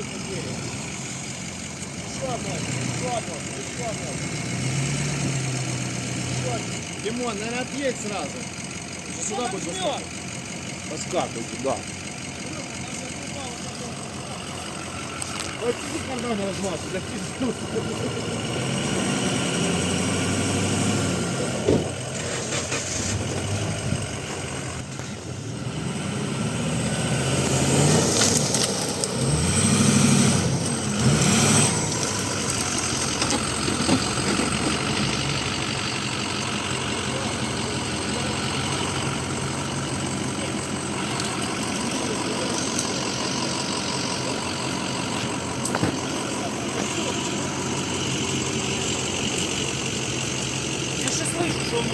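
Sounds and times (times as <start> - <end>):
vehicle engine revving: 0.0 - 51.9.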